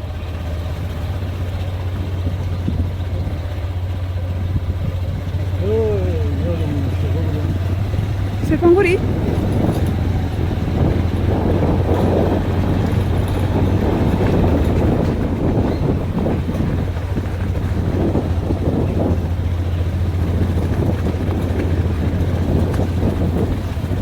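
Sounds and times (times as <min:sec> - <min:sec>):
engine running steadily: 0:00.0 - 0:24.0
wind rumbling on microphone: 0:00.4 - 0:24.0.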